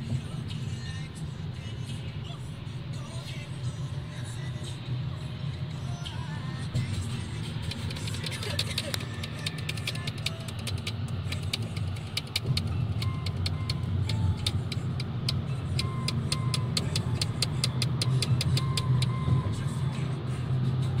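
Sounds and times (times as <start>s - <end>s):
car road rumble: 0.0s - 21.0s
music with ticking beat: 3.1s - 21.0s.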